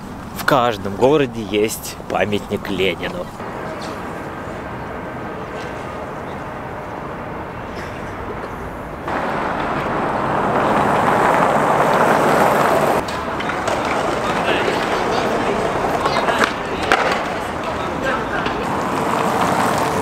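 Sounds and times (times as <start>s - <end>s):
city traffic: 0.0s - 20.0s.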